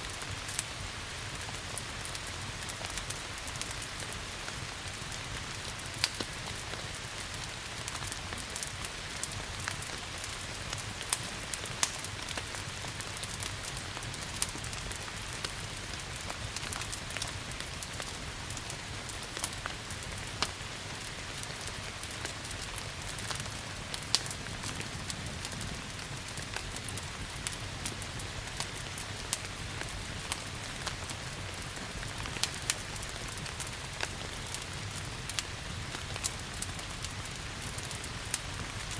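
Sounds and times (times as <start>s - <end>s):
rain hiss: 0.0s - 38.9s
wood fire crackling: 0.1s - 38.9s.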